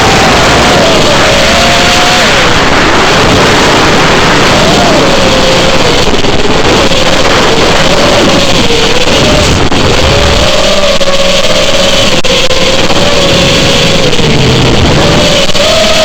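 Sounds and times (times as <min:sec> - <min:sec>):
drone motors and propellers whining: 0:00.0 - 0:16.0
wind rush on microphone: 0:00.0 - 0:16.0.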